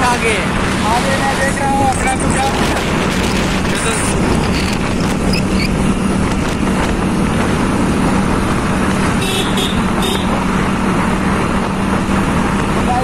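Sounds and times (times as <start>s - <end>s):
motorcycle engine hum: 0.0s - 13.0s
wind and road noise: 0.0s - 13.0s.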